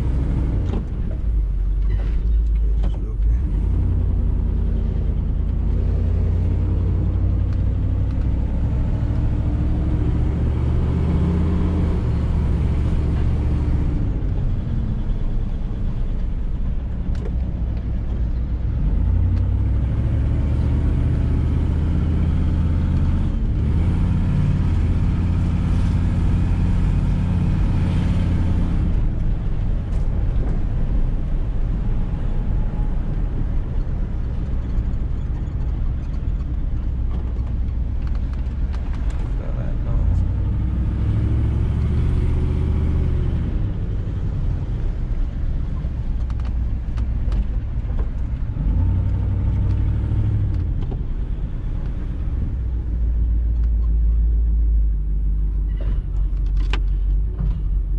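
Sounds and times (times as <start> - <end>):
diesel truck engine revving: 0.0 - 1.8, 2.4 - 57.9.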